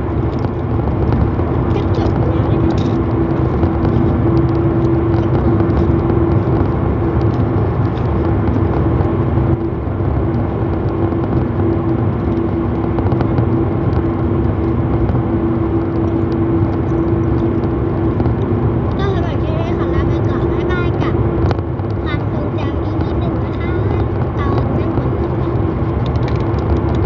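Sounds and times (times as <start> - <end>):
car engine hum: 0.0 - 27.0
low cabin rumble: 0.0 - 27.0.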